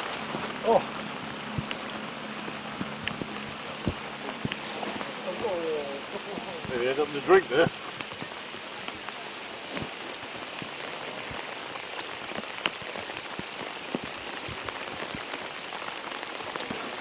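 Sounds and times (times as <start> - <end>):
heavier raindrops ticking: 0.0 - 17.0
steady rain hiss: 0.0 - 17.0.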